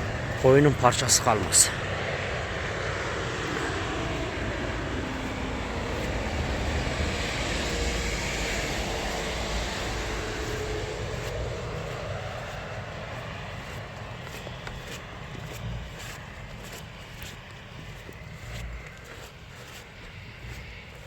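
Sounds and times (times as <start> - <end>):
road vehicle passing at speed: 0.0 - 21.0.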